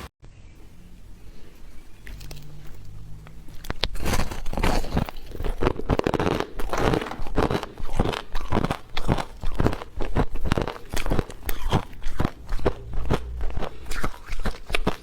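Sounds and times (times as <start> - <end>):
crunching and crackling: 1.3 - 15.0.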